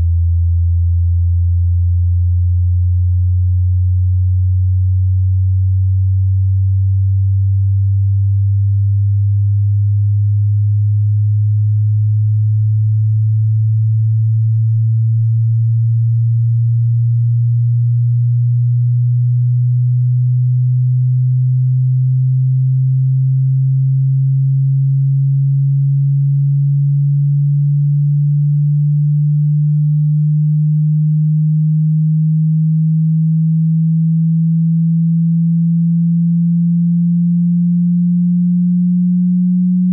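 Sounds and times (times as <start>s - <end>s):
rising sine tone: 0.0s - 39.9s.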